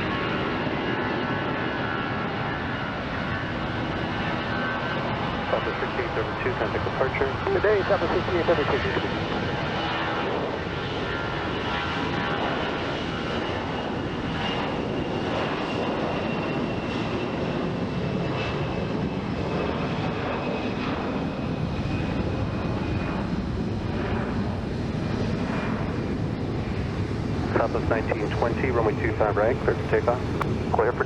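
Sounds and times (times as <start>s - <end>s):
jet engines roaring with whine: 0.0s - 31.0s.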